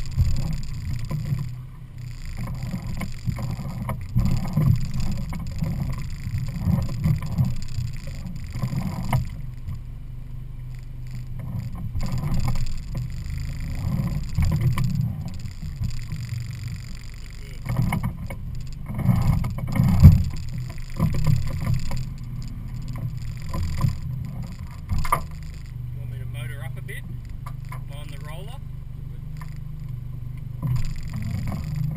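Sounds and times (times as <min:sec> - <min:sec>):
low buffeting and thumps: 0:00.0 - 0:31.9
outboard motor idling: 0:00.0 - 0:31.9.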